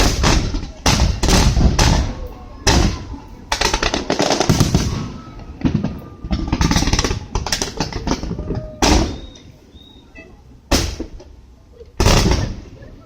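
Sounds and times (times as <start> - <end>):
fireworks booms: 0.0 - 9.6, 10.7 - 11.4, 12.0 - 13.0
fireworks crackling: 0.0 - 13.0.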